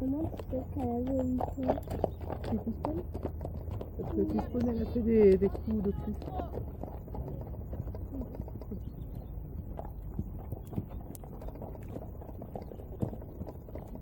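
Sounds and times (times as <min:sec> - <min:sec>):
horse hoofbeats: 0:00.0 - 0:14.0.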